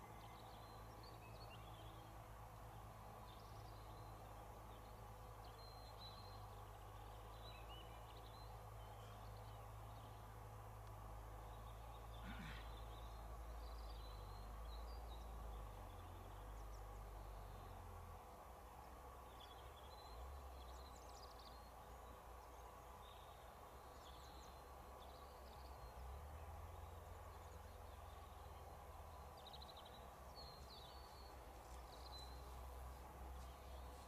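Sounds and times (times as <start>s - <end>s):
distant small birds chirping: 0.0s - 34.0s.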